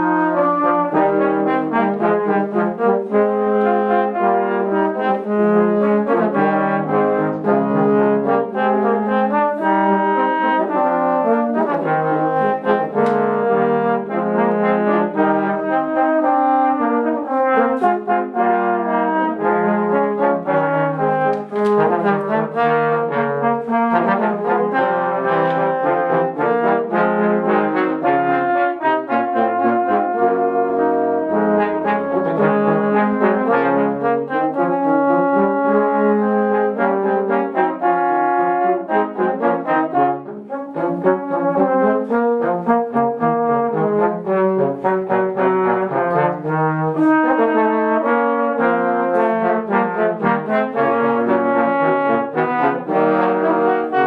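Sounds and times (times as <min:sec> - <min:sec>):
trombones playing in harmony: 0:00.0 - 0:54.0.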